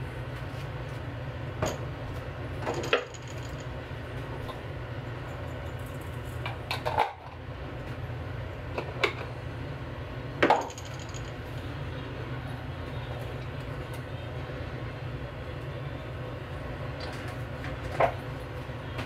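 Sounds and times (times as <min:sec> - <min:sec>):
gas burner hum: 0:00.0 - 0:19.0.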